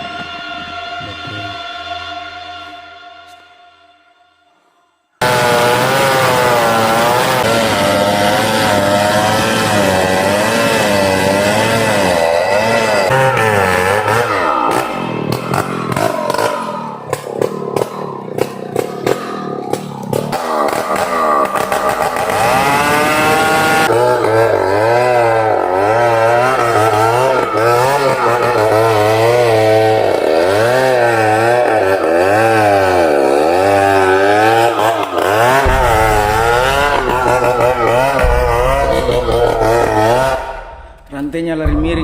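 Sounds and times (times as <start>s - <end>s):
chainsaw cutting wood: 5.2s - 41.2s.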